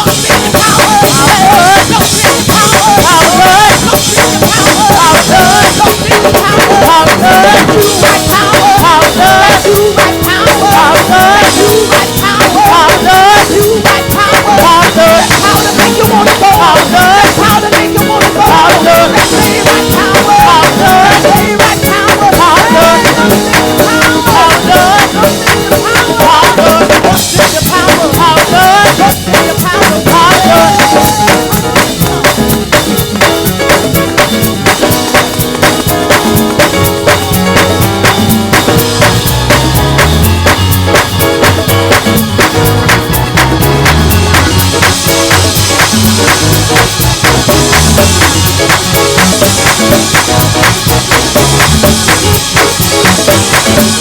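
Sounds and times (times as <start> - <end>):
busy drum kit: 0.0 - 54.0
gospel praise band playing: 0.0 - 54.0
keyboard or organ lines: 0.0 - 54.0
person singing: 0.0 - 54.0.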